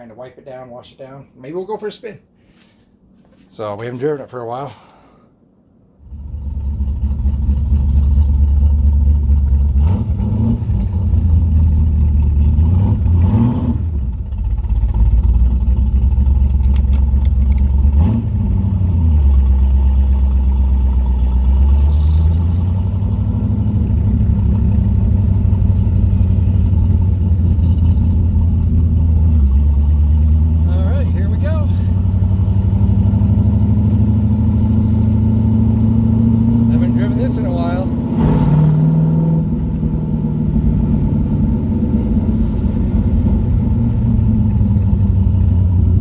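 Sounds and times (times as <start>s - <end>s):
car engine idling and revving: 6.0s - 46.0s.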